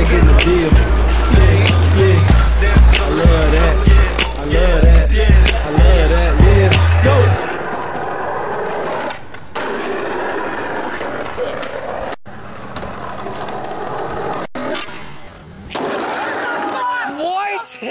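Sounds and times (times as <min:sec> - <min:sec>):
skateboard wheels rolling on asphalt: 0:00.0 - 0:04.5, 0:05.6 - 0:17.1.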